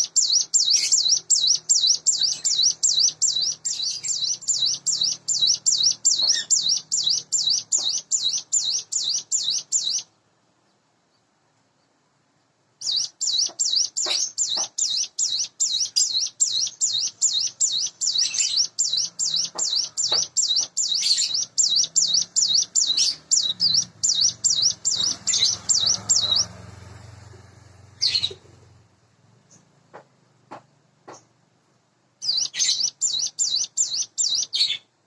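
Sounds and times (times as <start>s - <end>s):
bird singing sharp high notes: 0.0s - 10.1s, 12.8s - 28.4s, 32.2s - 34.9s.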